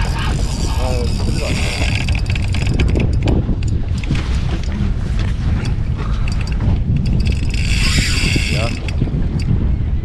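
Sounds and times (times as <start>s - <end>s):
heavy wind buffeting microphone: 0.0s - 10.0s
water around boat hull: 0.0s - 10.0s.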